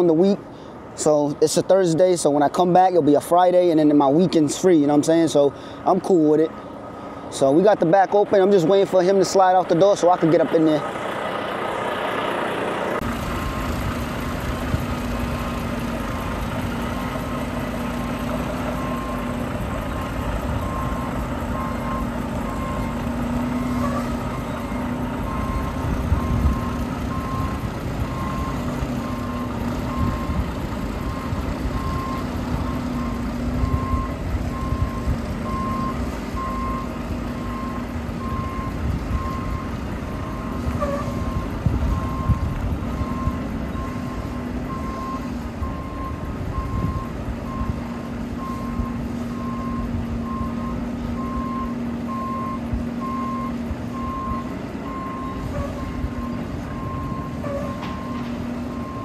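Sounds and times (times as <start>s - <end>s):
diesel engine rumble: 0.0s - 59.0s
truck reverse alarm beeping: 2.8s - 59.0s.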